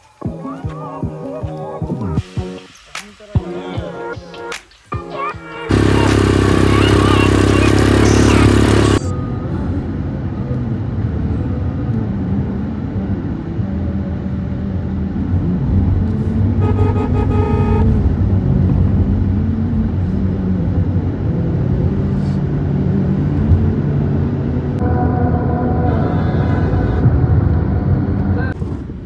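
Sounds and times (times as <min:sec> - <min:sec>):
car engine and road noise: 0:05.7 - 0:29.0.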